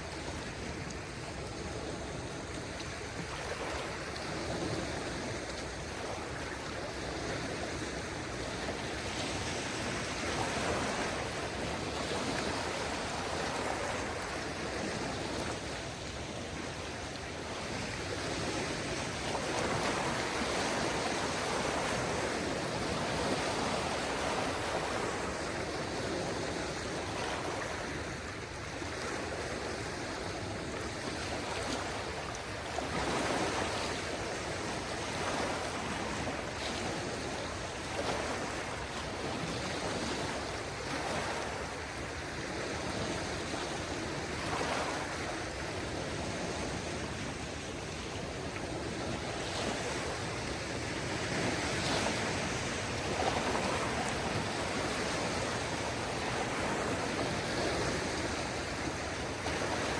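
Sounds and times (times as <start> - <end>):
small waves washing on shore: 0.0 - 59.9.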